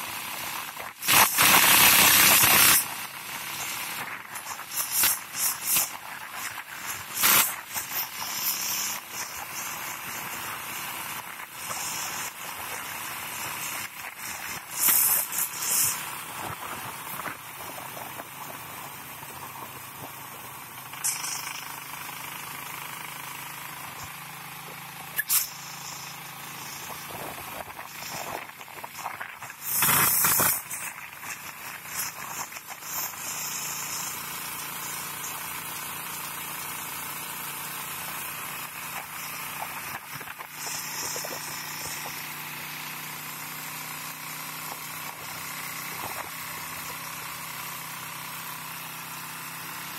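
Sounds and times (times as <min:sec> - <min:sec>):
road and wind noise: 0:00.0 - 0:35.6, 0:37.5 - 0:43.1, 0:43.8 - 0:48.9
motorcycle engine running: 0:00.0 - 0:49.9.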